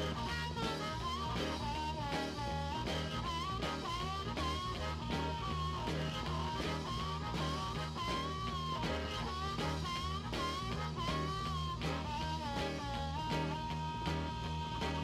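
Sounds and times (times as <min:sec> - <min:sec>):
instrumental music with sliding melody: 0:00.0 - 0:15.0.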